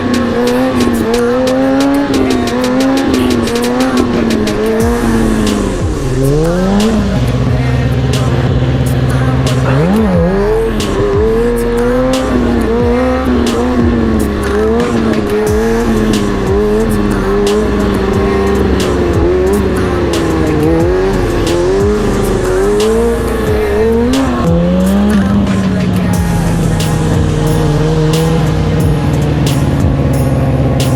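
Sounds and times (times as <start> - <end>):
background music with a beat: 0.0 - 30.9
motorcycle engine revving: 0.0 - 30.9.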